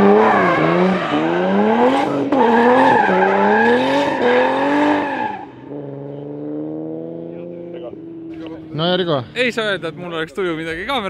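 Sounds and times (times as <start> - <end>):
car engine revving hard: 0.0 - 10.1.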